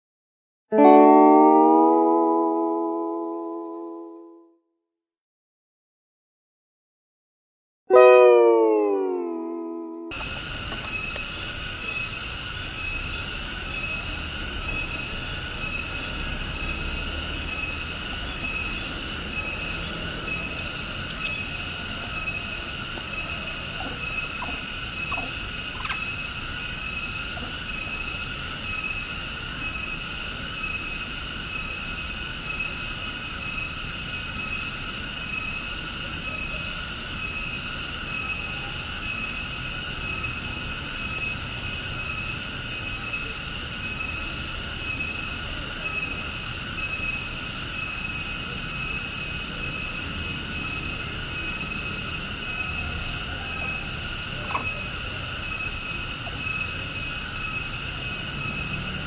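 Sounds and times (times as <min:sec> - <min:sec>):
cicadas shrilling: 0:10.1 - 0:59.0.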